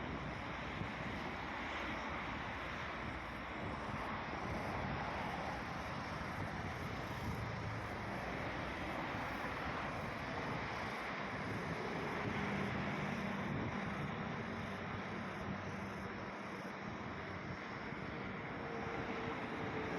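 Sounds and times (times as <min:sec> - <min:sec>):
wind noise on microphone: 0:00.0 - 0:16.1
low engine hum: 0:00.0 - 0:19.9.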